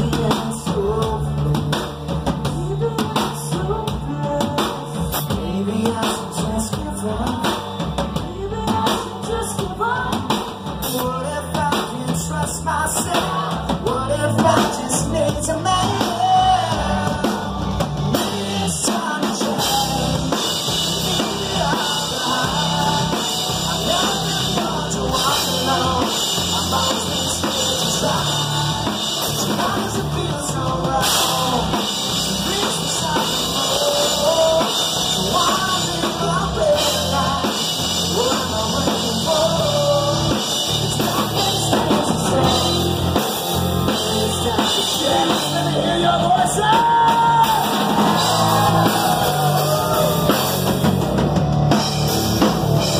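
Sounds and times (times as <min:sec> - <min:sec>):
person singing: 0:00.0 - 0:50.8
drum kit: 0:00.0 - 0:52.9
electric guitar: 0:00.0 - 0:52.9.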